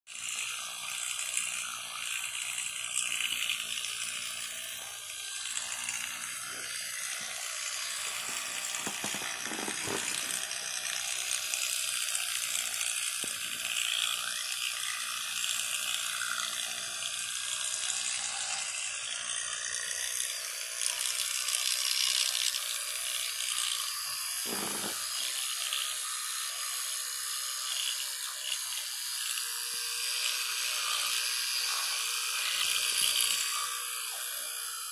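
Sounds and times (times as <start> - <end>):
electric toothbrush buzzing: 0.1 - 34.9.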